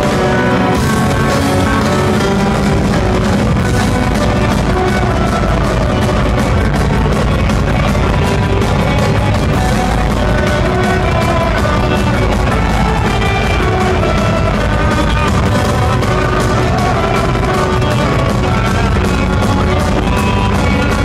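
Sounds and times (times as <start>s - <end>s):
metal band playing live: 0.0s - 21.0s.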